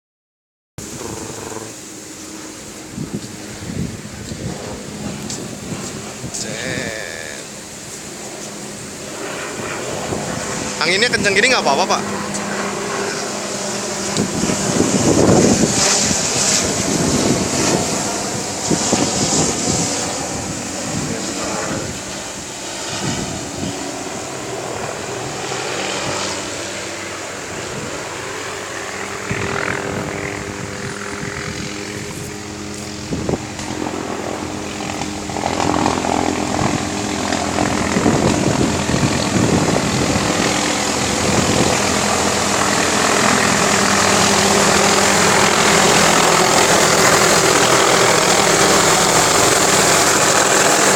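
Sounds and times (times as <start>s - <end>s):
helicopter rotor and engine drone: 0.8s - 50.9s.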